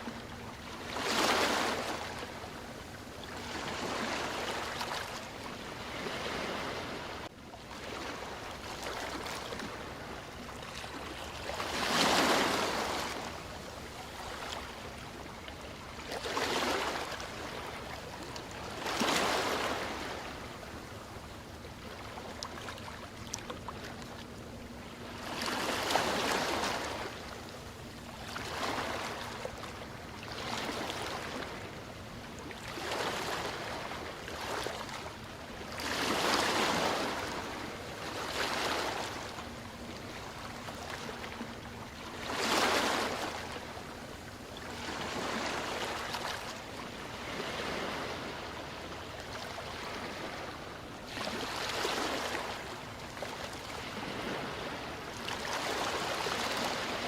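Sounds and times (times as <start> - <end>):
ocean waves breaking: 0.1 - 57.0.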